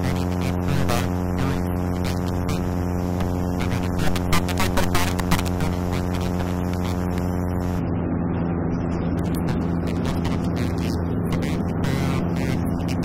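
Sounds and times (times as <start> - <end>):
airplane engine and propeller drone: 0.0 - 13.0.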